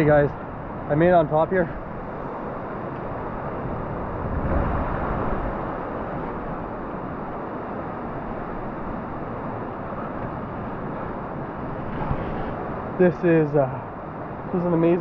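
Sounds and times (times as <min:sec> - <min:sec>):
fast-flowing river water: 0:00.1 - 0:15.0.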